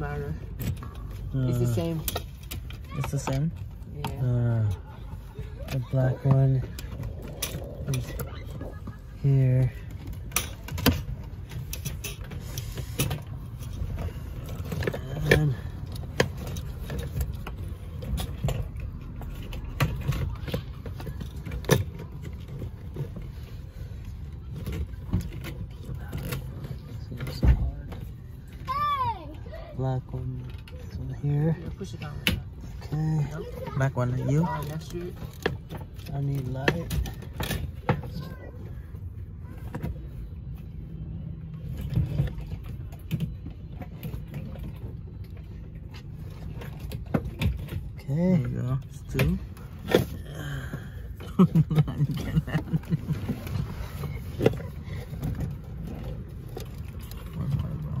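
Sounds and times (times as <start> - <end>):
knocks and rattles of plastic parts: 0.0 - 28.8, 30.2 - 40.6, 41.6 - 58.0.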